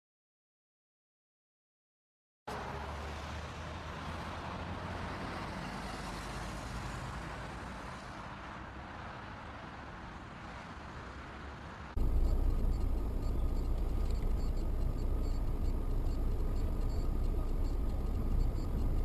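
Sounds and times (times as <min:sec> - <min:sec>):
moving vehicle road and engine noise: 0:02.5 - 0:19.0.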